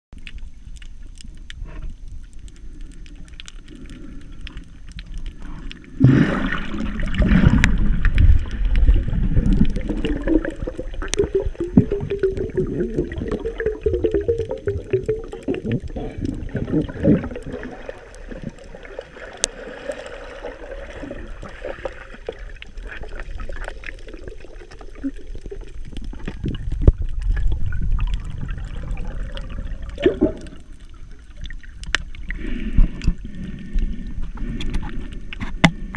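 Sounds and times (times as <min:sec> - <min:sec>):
muffled underwater gurgling and sloshing: 0:00.2 - 0:35.9.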